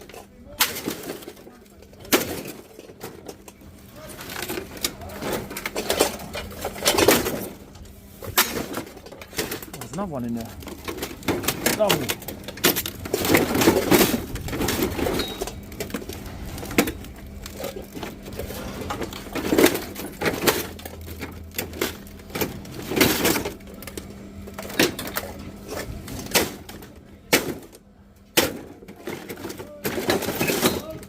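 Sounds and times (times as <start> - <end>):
scrap metal clattering: 0.0 - 27.7.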